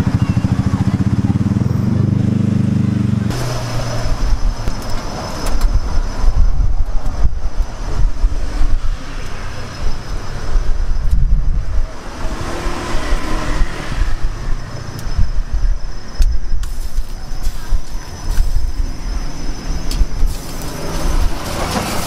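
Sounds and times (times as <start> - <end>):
passing traffic rumble: 0.0 - 22.0.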